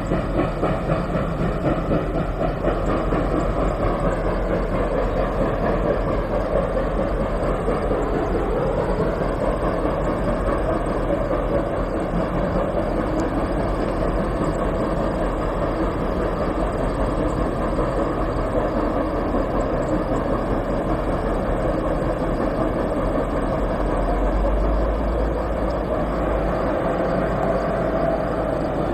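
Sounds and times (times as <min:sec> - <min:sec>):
train rumbling over bridge: 0:00.0 - 0:28.9.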